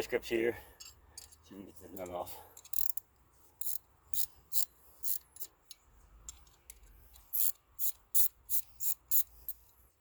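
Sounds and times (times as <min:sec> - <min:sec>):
metallic clicks and scrapes: 0:00.8 - 0:09.9.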